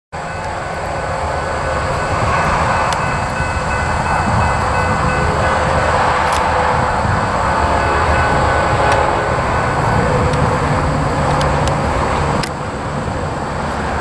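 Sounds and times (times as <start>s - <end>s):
diesel freight train rumbling: 0.1s - 14.0s.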